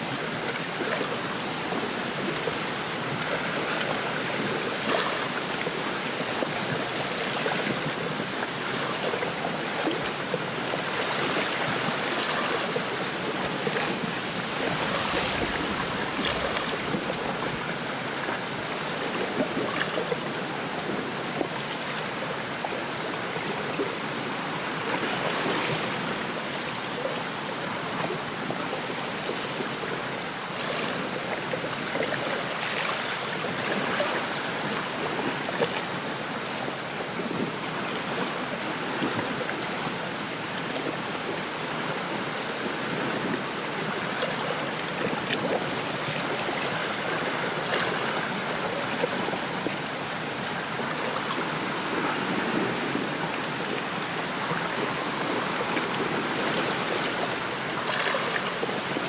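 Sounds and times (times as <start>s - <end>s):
waves lapping at shore: 0.0s - 59.0s.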